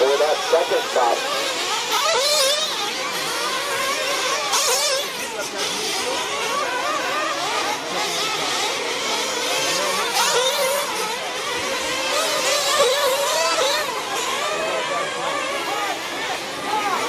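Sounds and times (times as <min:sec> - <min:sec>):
small model engines whining: 0:00.0 - 0:17.0.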